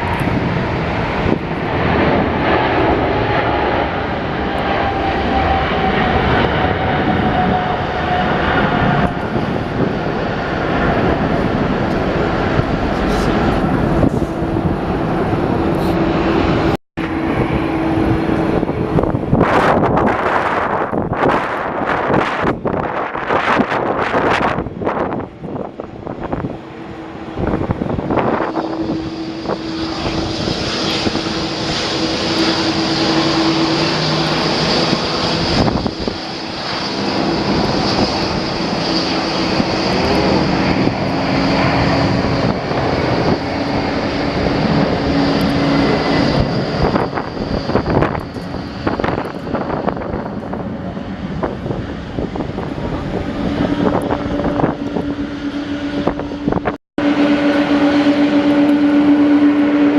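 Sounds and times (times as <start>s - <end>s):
jet engines roaring: 0.0s - 59.9s
wind buffeting microphone: 0.0s - 59.9s.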